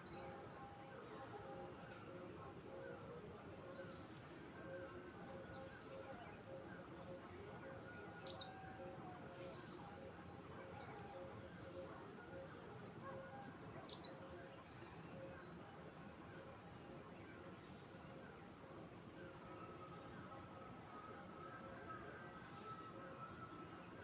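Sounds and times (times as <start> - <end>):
faint background noise: 0.0 - 24.0.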